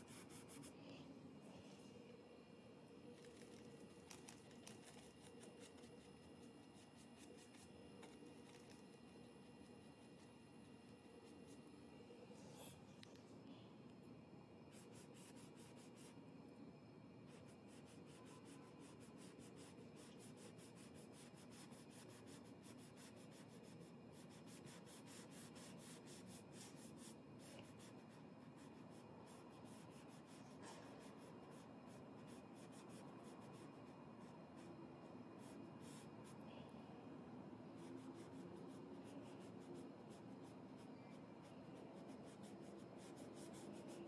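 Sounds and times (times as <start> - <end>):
paintbrush strokes on canvas: 0.0 - 1.9, 3.0 - 11.8, 14.6 - 16.2, 17.2 - 36.4, 37.4 - 44.0.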